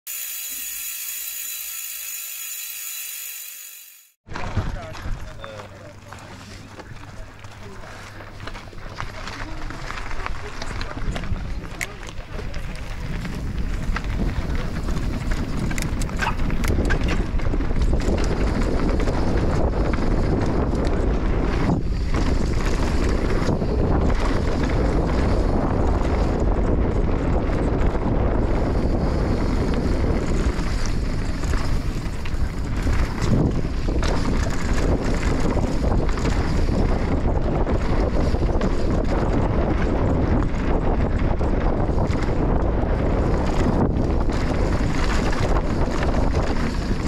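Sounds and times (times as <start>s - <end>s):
wind noise on microphone: 4.3s - 47.0s.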